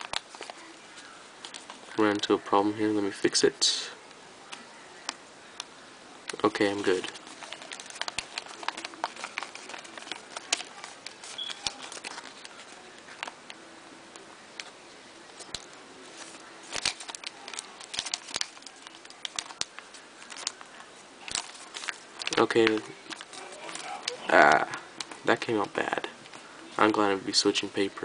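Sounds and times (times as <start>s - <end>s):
paper crinkling and crackling: 0.0s - 2.4s, 6.3s - 27.1s.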